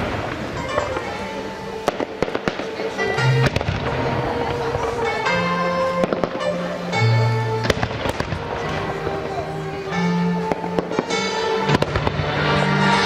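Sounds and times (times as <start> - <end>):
fireworks bangs: 0.0 - 13.0
loud music: 0.0 - 13.0.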